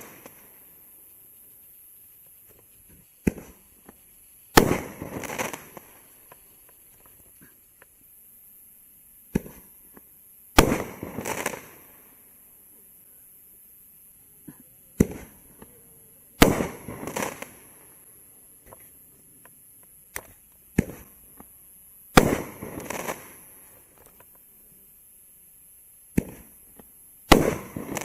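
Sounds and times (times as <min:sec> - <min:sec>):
firework crackling: 0:00.0 - 0:12.8, 0:14.2 - 0:24.8, 0:26.0 - 0:28.0.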